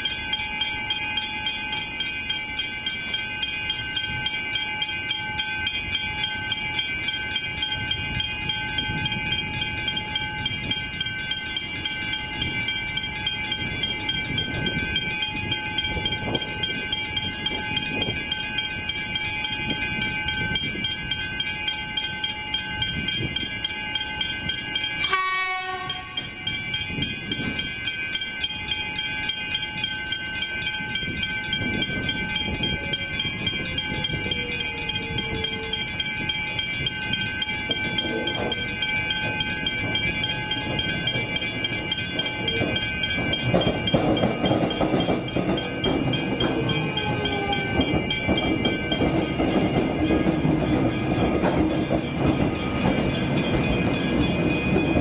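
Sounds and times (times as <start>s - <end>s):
electric train rumbling: 0.0s - 55.0s
level crossing bells ringing: 0.0s - 55.0s.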